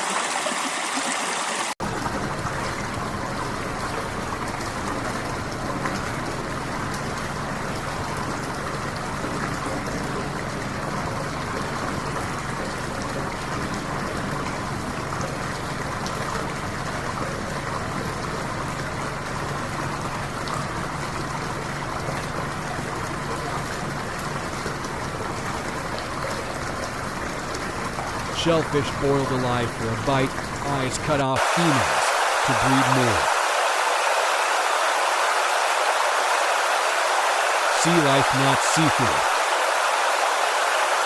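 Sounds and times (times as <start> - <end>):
running water rushing: 0.0 - 41.0
water trickling: 0.0 - 41.0.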